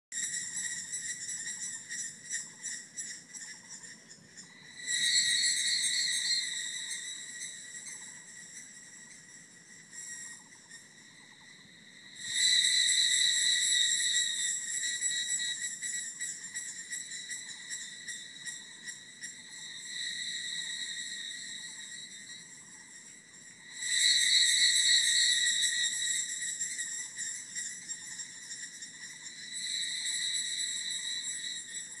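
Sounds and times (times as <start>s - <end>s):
cicadas buzzing: 0.2s - 32.0s.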